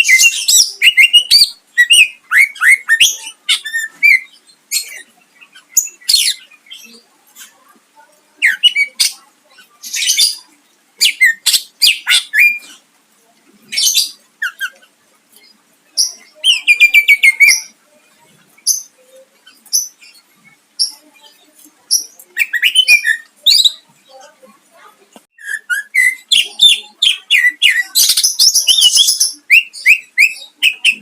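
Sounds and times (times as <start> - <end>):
bird singing harsh calls and chirps: 0.0 - 7.6, 8.4 - 12.9, 13.6 - 24.0, 25.3 - 31.0.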